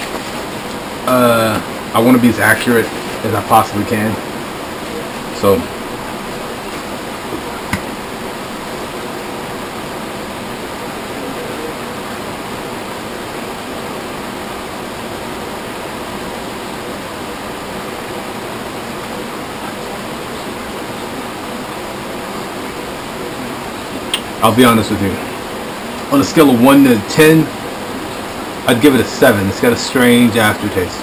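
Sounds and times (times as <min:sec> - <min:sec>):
background hiss: 0:00.0 - 0:31.0.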